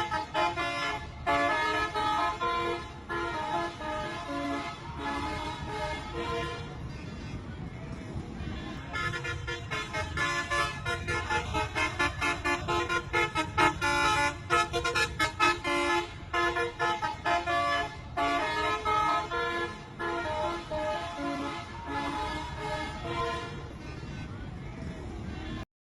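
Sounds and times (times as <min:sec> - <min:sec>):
bus horn playing a tune: 0:00.0 - 0:07.6, 0:08.4 - 0:24.6
low traffic rumble: 0:00.0 - 0:25.6.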